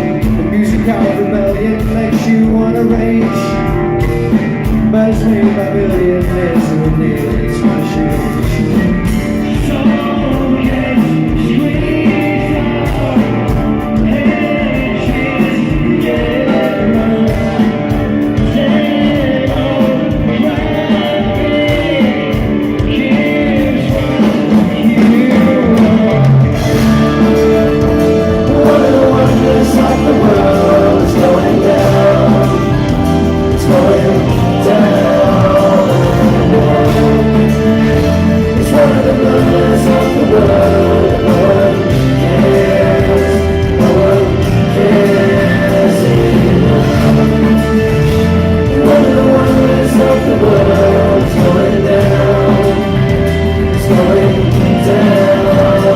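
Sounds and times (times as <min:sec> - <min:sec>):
bass guitar: 0:00.0 - 0:55.9
drums: 0:00.0 - 0:55.9
electric guitar: 0:00.0 - 0:55.9
person singing: 0:00.0 - 0:55.9.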